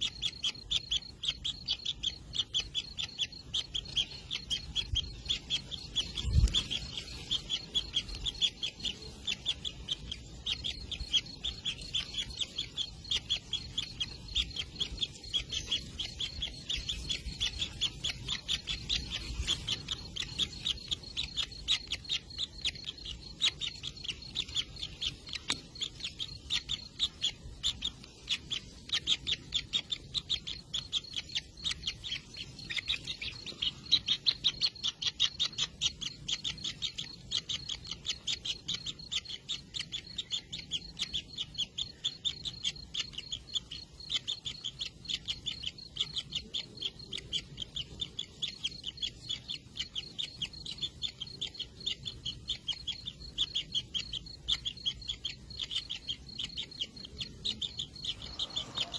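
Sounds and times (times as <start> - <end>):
nestlings chirping: 0.0 - 58.9.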